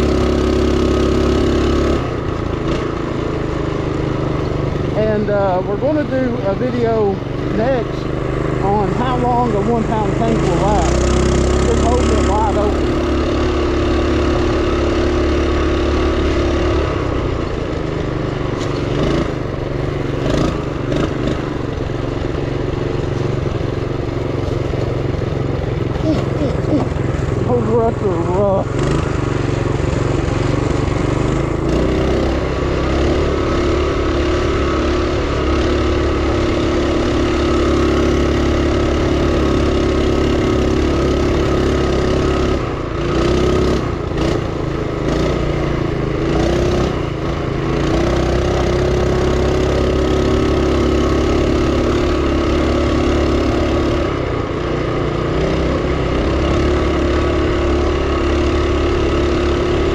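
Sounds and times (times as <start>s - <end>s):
mini bike engine at high throttle: 0.0s - 59.9s.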